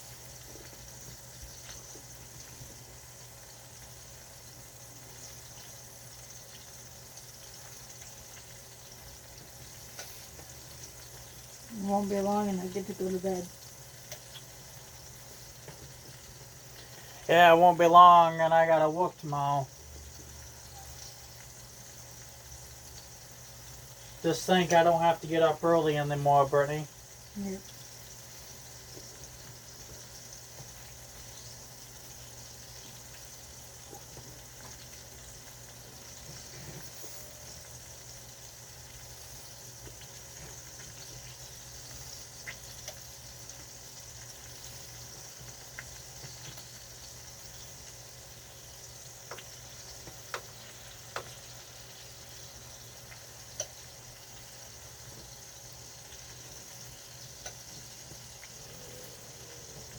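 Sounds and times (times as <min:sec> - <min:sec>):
food sizzling on stovetop: 0:00.0 - 0:59.9.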